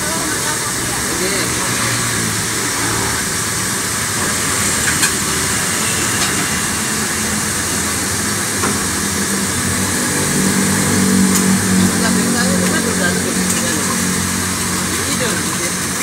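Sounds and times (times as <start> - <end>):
gas burner flame roaring: 0.0 - 16.0.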